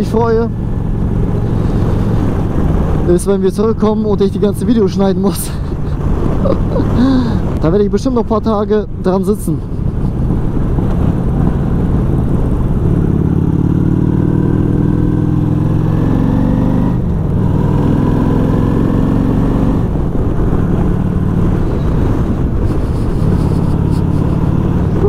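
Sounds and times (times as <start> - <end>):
motorcycle engine accelerating: 0.0 - 7.6, 9.6 - 25.0
wind rumble on microphone: 0.0 - 25.0.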